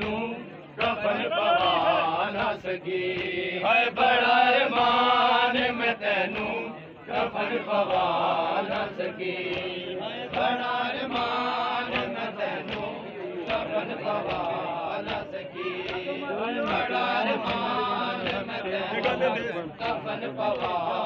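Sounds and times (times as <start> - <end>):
men chanting: 0.0 - 21.0
hands slapping chests: 0.8 - 3.4, 6.3 - 20.9.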